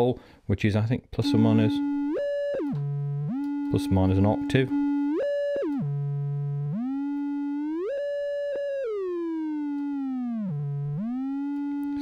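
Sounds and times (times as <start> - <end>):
synthesizer note with pitch bend: 1.2 - 12.0.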